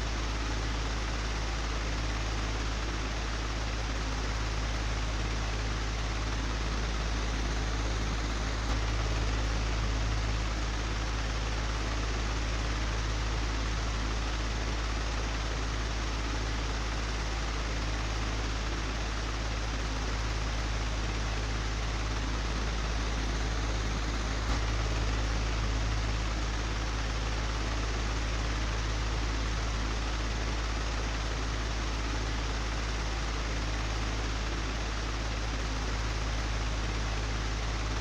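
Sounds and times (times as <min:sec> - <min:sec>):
fan humming and whooshing: 0:04.0 - 0:38.0.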